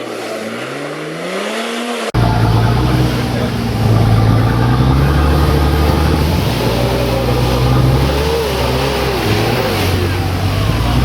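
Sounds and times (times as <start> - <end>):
engine running at low revs: 2.1 - 11.0
wavering higher tone: 2.2 - 11.0.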